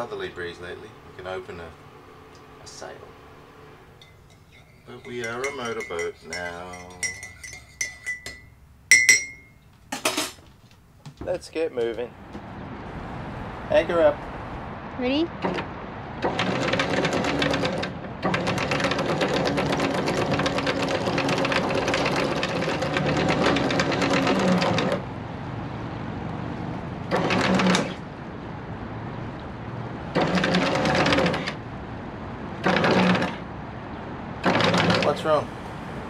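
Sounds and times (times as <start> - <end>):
windlass motor hum: 0.0 - 9.5, 10.6 - 36.0.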